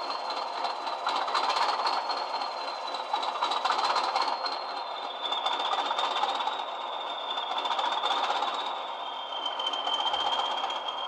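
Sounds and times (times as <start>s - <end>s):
diesel engine sound through small speaker: 0.0s - 11.0s.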